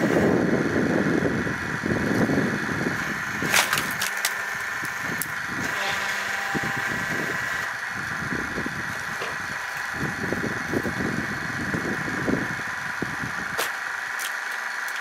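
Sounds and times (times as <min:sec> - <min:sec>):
saw-splitter machine whining: 0:00.0 - 0:15.0.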